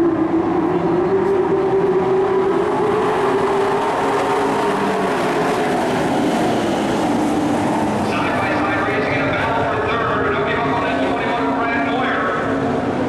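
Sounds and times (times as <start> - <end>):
racing truck engines: 0.0 - 13.0.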